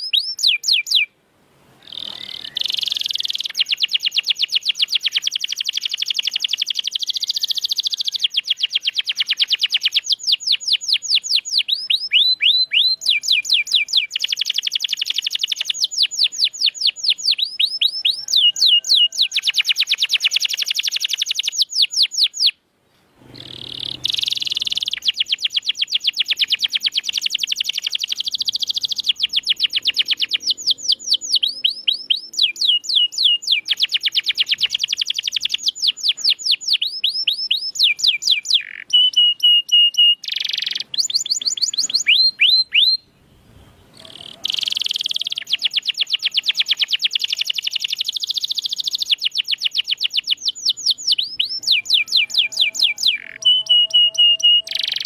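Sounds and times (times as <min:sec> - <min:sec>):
canary singing trills: 0:00.0 - 0:01.1, 0:01.8 - 0:22.6, 0:23.3 - 0:43.2, 0:43.8 - 0:55.0.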